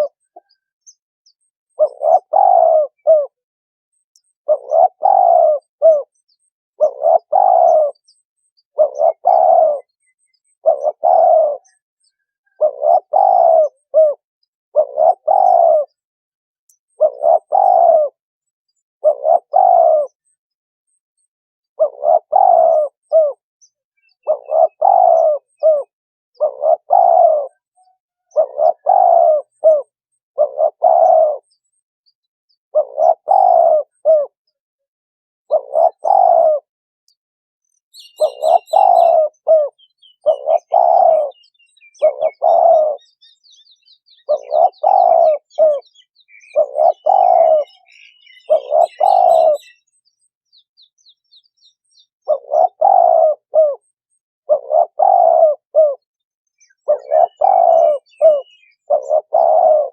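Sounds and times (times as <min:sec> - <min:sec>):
dove cooing: 0:00.0 - 0:01.0, 0:01.7 - 0:03.4, 0:04.2 - 0:16.0, 0:16.9 - 0:20.4, 0:21.8 - 0:23.4, 0:24.0 - 0:31.8, 0:32.7 - 0:34.6, 0:35.5 - 0:36.7, 0:38.0 - 0:50.0, 0:52.2 - 0:59.9.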